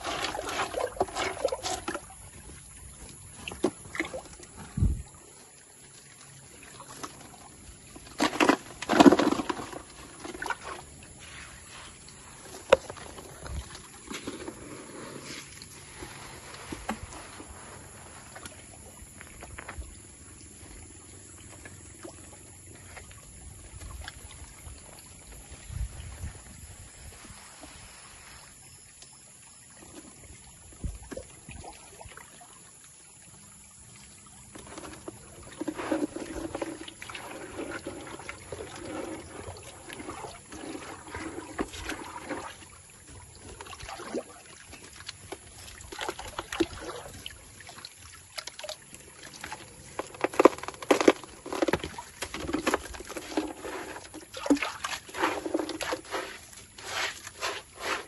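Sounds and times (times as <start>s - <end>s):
stream water sloshing and splashing: 0.0s - 58.0s.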